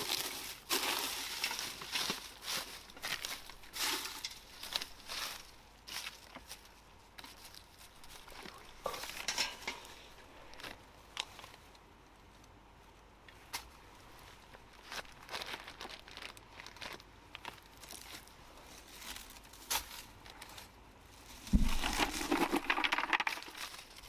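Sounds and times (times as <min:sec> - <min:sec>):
dry leaves and twigs rustling: 0:00.0 - 0:24.0.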